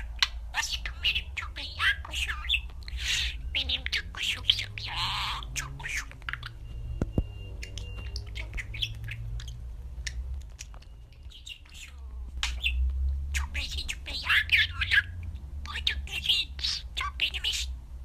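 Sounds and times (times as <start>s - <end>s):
budgerigar chirping and chattering: 0.0s - 6.8s, 7.6s - 17.8s.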